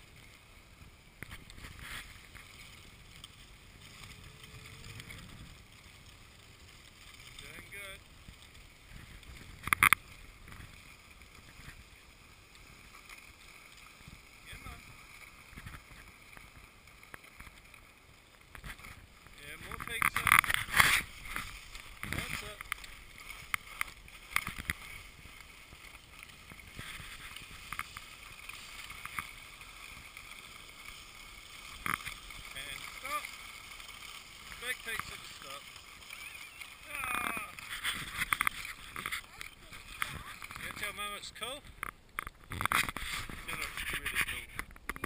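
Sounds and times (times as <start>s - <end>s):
skis sliding over snow: 0.0s - 45.0s.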